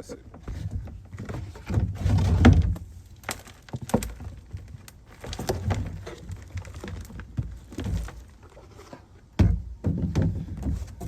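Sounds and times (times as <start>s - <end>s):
rustling: 0.4s - 9.3s.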